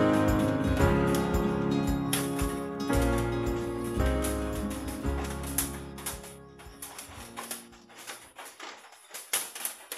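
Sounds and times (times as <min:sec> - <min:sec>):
background music: 0:00.0 - 0:08.5.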